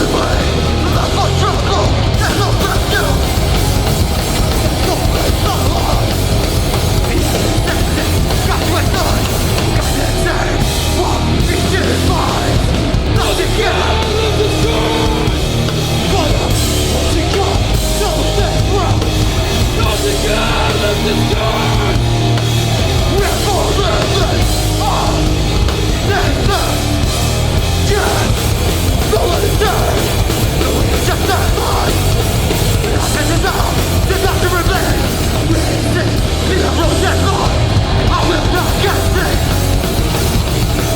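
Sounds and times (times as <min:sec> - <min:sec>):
punk band playing live: 0:00.0 - 0:40.9.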